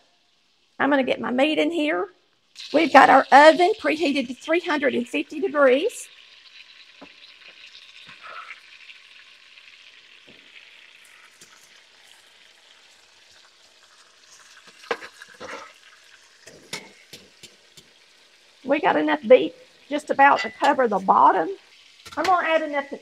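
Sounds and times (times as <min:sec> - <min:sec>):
meat sizzling in butter: 0:02.4 - 0:23.0.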